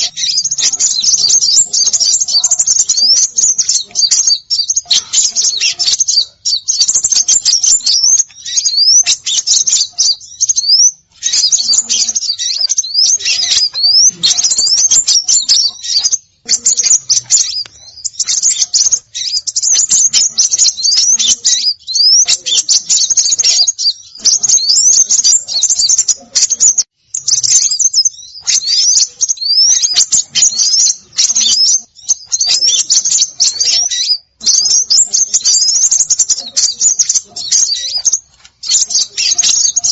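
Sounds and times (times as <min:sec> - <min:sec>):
rising bird whistles: 0:00.0 - 0:39.9
songbirds chirping and twittering: 0:00.0 - 0:39.9.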